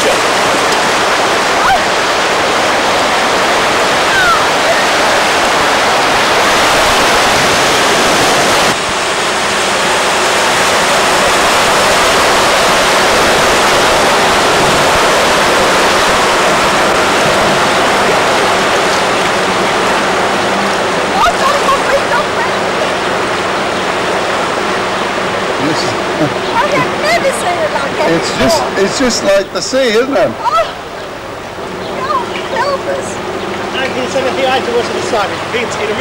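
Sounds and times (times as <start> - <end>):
floodwater rushing: 0.0 - 36.0
vehicles wading through water: 0.0 - 36.0.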